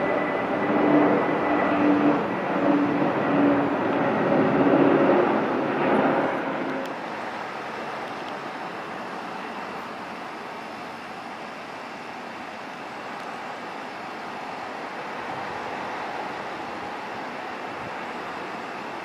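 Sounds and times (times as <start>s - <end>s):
airplane engine passing by: 0.0s - 19.0s.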